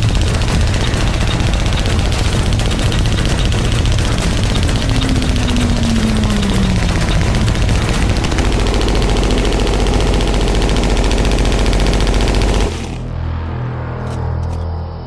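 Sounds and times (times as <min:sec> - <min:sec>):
machine gun automatic fire: 0:00.0 - 0:13.2
low drone: 0:00.0 - 0:15.0.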